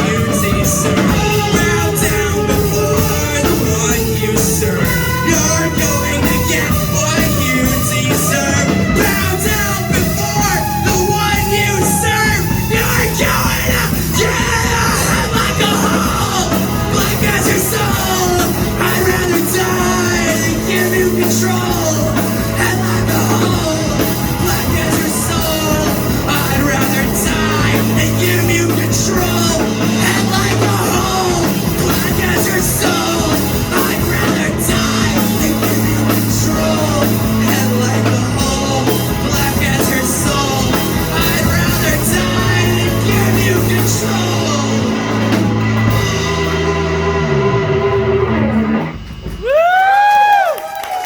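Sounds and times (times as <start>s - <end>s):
bass long low notes: 0.0s - 51.0s
live rock band playing: 0.0s - 51.0s.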